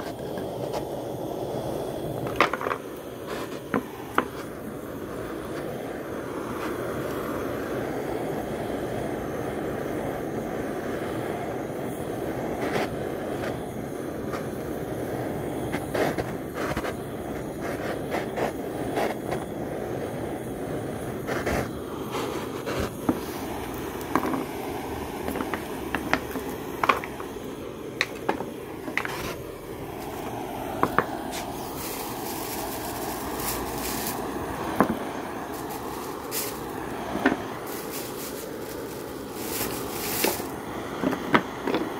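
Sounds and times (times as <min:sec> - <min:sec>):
gas torch flame rushing: 0:00.0 - 0:41.9.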